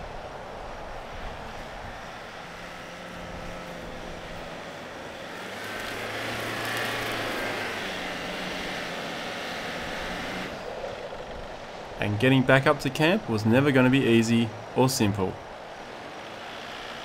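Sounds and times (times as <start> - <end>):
engine droning under load: 0.0 - 17.0.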